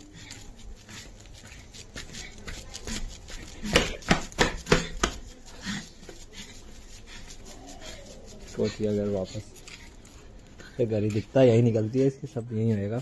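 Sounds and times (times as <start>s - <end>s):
footsteps on concrete: 0.0s - 13.0s.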